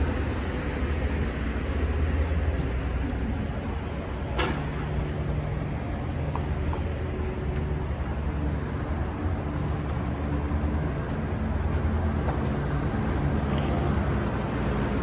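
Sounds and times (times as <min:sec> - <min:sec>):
vehicle engines idling and passing: 0:00.0 - 0:15.0.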